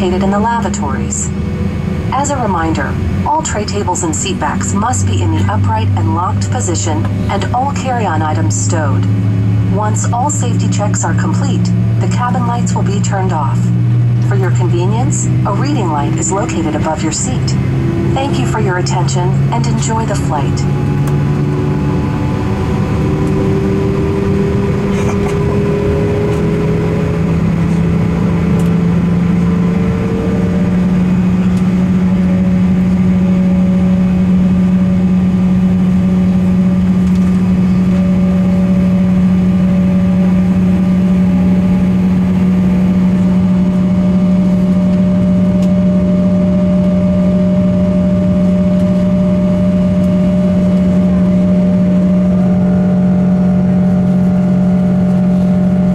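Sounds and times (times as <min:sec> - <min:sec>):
jet engines droning in cabin: 0:00.0 - 0:55.9.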